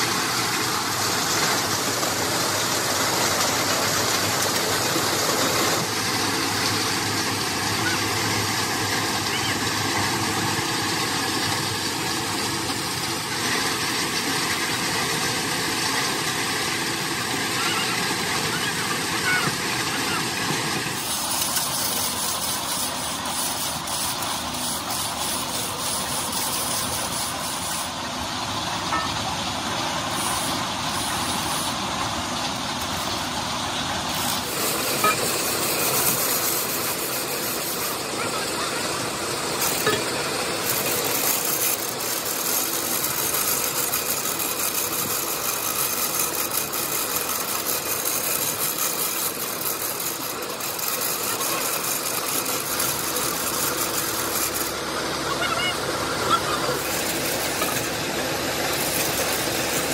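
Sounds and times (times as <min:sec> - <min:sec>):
engine-driven machinery running: 0:00.0 - 0:59.9.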